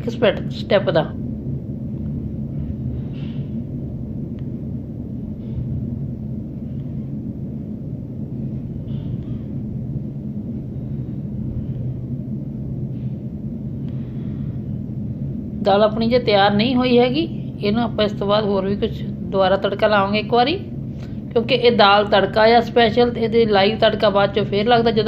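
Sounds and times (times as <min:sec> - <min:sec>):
low kitchen hum: 0:00.0 - 0:25.0.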